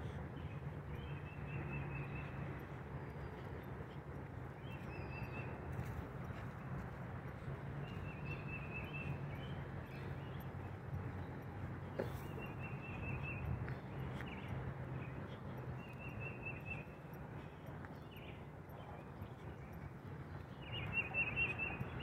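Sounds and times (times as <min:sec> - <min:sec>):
songbirds singing: 0:00.0 - 0:22.0
steady low hum: 0:00.0 - 0:22.0.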